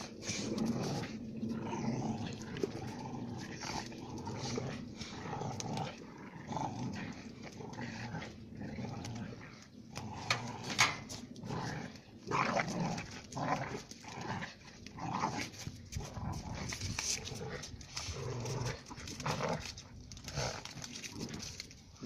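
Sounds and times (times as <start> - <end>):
puppies growling: 0.0 - 22.0.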